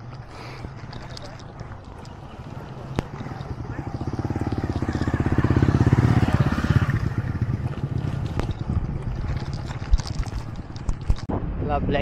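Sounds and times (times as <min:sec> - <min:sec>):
motorcycles passing by: 0:01.0 - 0:10.8.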